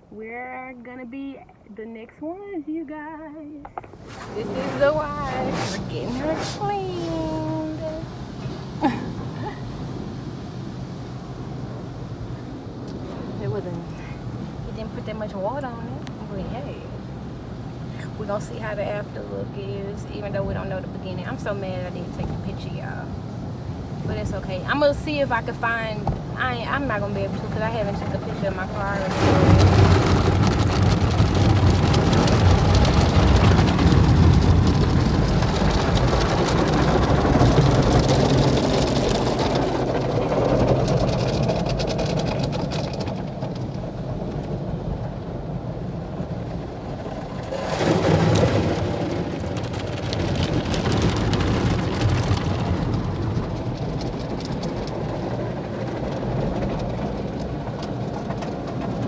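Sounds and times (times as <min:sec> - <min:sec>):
water spraying on car: 0:03.9 - 0:59.0.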